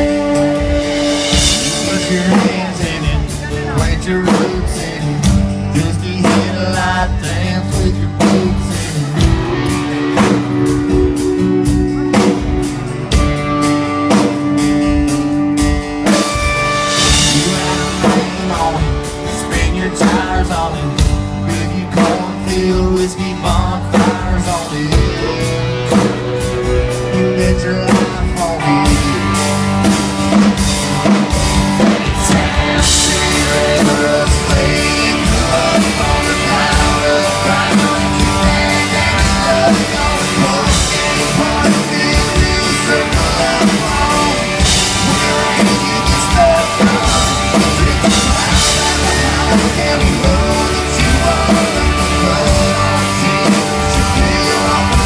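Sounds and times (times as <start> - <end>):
person singing: 0.0 - 29.6, 30.5 - 55.0
drum kit beat: 0.0 - 55.0
electric guitars: 0.0 - 55.0.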